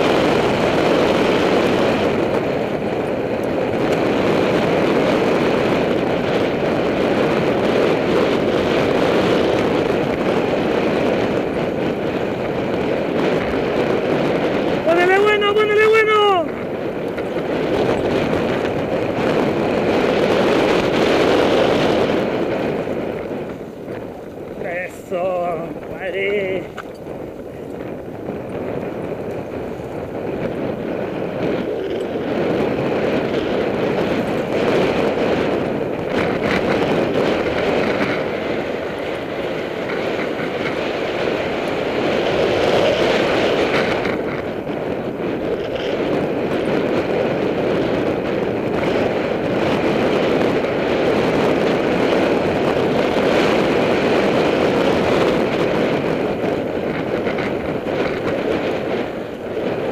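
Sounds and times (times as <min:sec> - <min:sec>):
bike rattling and clattering: 0:00.0 - 0:59.9
tyres on loose dirt: 0:00.0 - 0:59.9.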